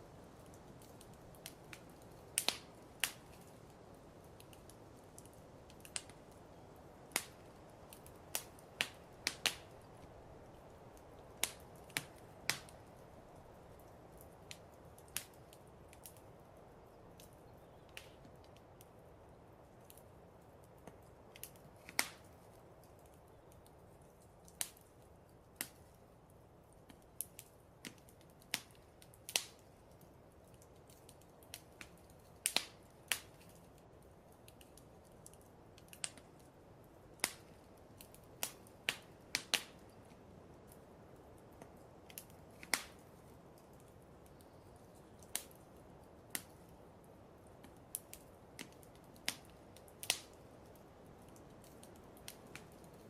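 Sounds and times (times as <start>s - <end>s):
faint steady hiss: 0.0s - 53.0s
wood fire crackling: 0.0s - 53.0s.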